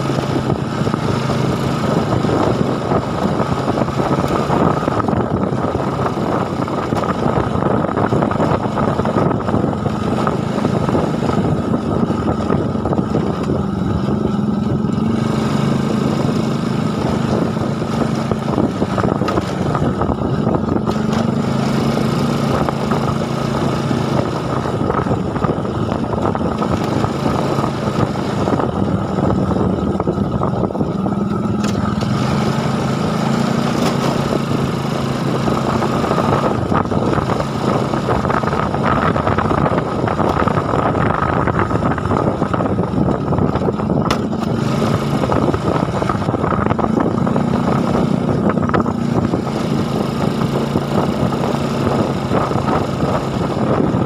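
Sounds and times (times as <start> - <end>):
rough rushing background: 0.0 - 54.0.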